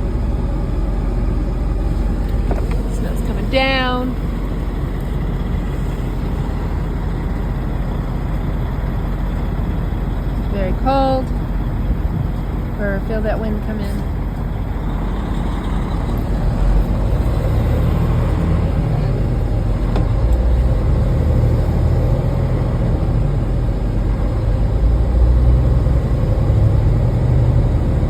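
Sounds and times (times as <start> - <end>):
road noise: 0.0 - 28.0
truck engine drone: 0.0 - 28.0.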